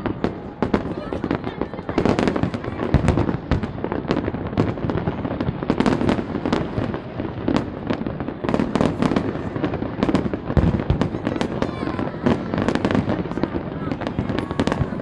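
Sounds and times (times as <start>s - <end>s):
firework bangs and crackles: 0.0s - 15.0s.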